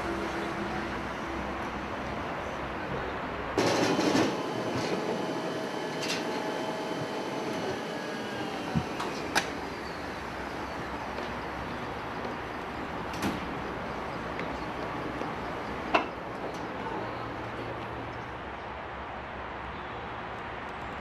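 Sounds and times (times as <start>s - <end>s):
railway carriage rumble: 0.0s - 19.0s.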